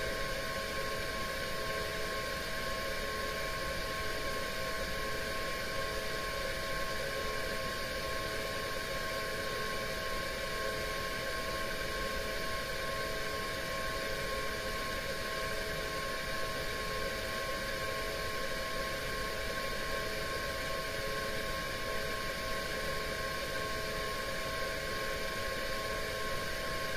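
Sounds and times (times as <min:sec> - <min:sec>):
machine hum and hiss: 0:00.0 - 0:26.9.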